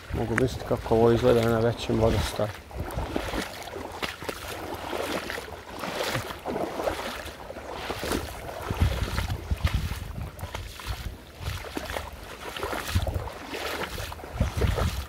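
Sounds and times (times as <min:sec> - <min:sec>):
wind rumbling on microphone: 0:00.0 - 0:05.3, 0:06.0 - 0:15.0
river water splashing around legs: 0:00.0 - 0:15.0.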